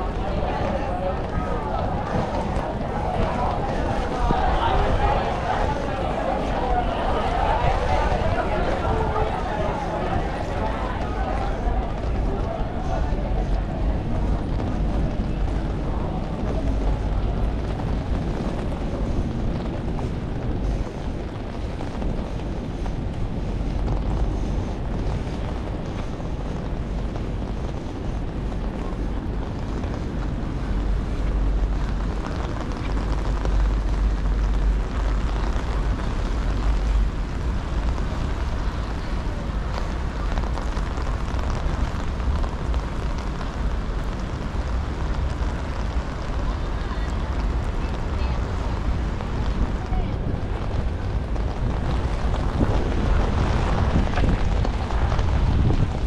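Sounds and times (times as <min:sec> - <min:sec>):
rain hiss: 0:00.0 - 0:56.0
wind buffeting microphone: 0:00.0 - 0:56.0.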